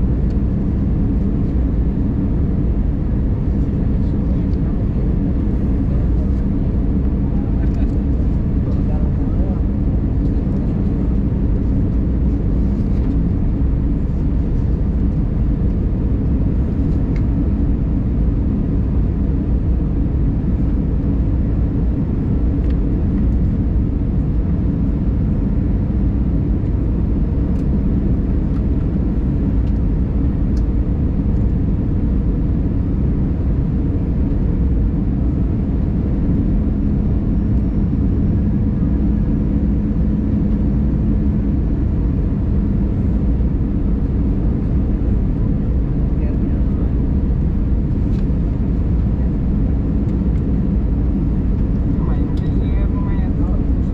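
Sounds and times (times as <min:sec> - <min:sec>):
aircraft cabin engine rumble: 0:00.0 - 0:53.9
low hum: 0:00.0 - 0:53.9.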